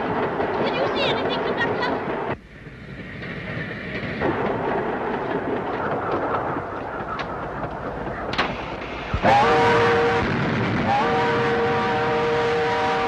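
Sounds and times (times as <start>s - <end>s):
railway car rumbling on track: 0.0s - 13.0s.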